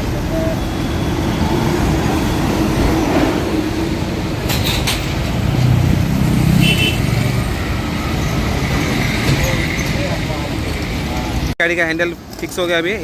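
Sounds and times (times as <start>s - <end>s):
road traffic rumbling: 0.0s - 13.0s.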